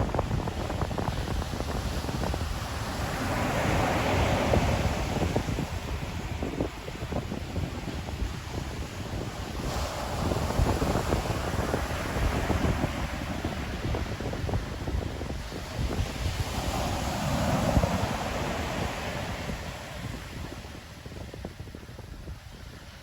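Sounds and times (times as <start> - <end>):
ocean surf breaking on shore: 0.0 - 23.0
wind buffeting microphone: 0.0 - 23.0.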